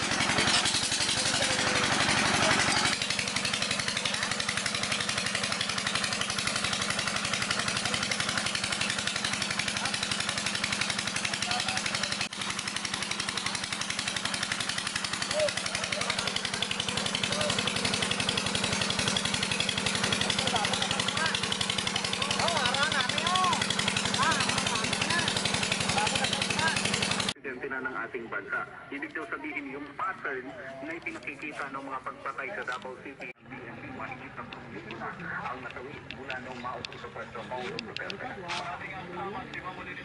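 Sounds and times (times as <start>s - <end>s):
diesel engine driving water pump: 0.0s - 40.0s.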